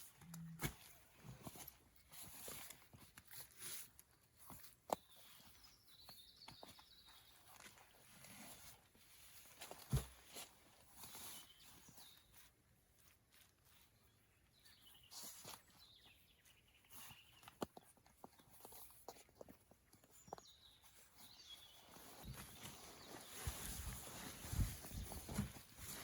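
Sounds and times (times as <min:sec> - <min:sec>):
faint clicks and rustles: 0:00.0 - 0:26.0.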